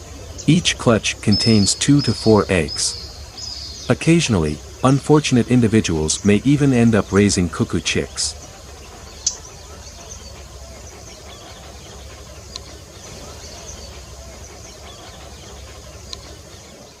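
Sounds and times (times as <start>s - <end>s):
high hiss: 0.0s - 17.0s.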